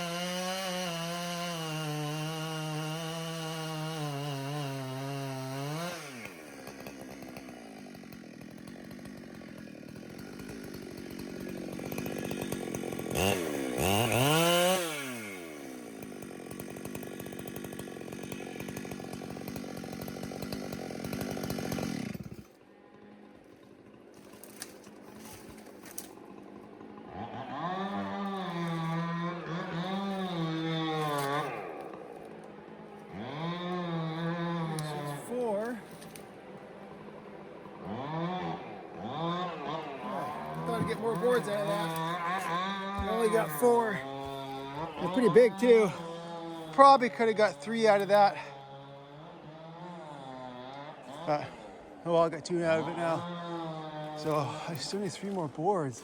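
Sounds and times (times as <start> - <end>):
chainsaw ripping a log: 0.0 - 56.0.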